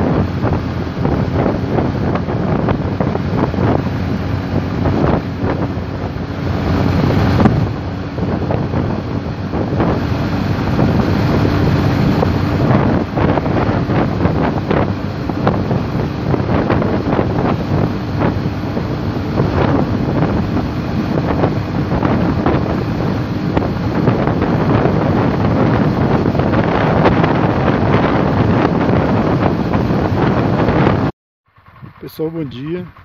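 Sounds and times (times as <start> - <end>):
motorcycle engine drone: 0.0 - 33.0
wind buffeting microphone: 0.0 - 33.0.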